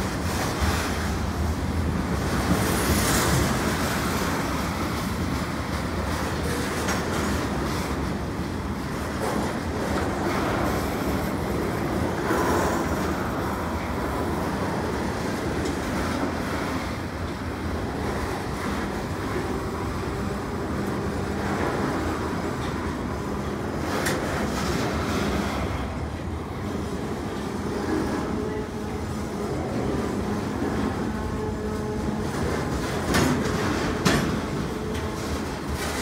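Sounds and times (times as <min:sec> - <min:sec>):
steel wheels rumbling on rail: 0:00.0 - 0:36.0.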